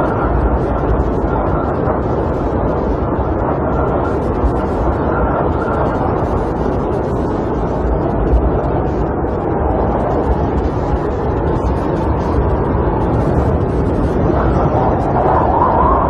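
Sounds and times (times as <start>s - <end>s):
wind blowing against camper: 0.0s - 16.0s.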